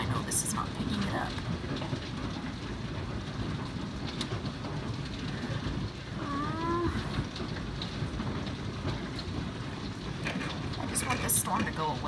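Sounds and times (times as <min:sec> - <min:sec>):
heavy rain and wind rushing: 0:00.0 - 0:12.0.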